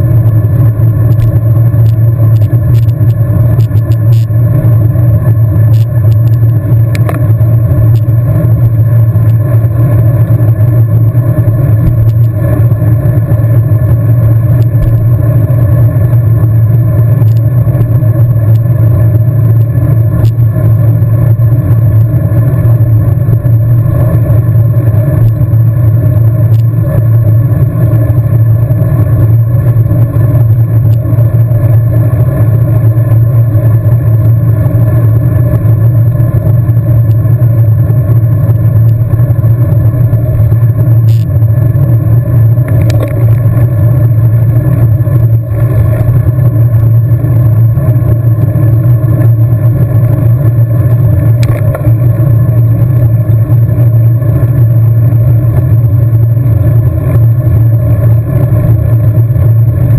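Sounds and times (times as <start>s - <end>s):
wind rumble on microphone: 0.0s - 59.9s.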